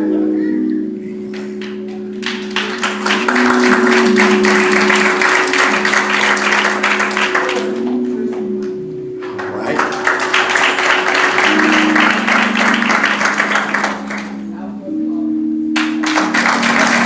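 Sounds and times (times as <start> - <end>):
background music long notes: 0.0 - 17.0
congregation clapping: 1.2 - 14.5, 15.8 - 17.0.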